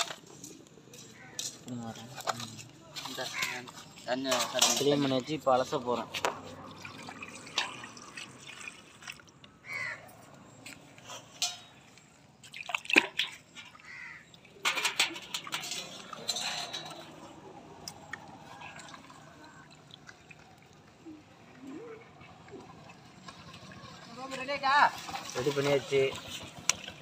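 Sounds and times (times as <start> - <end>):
water sloshing and dripping: 0.0 - 27.0.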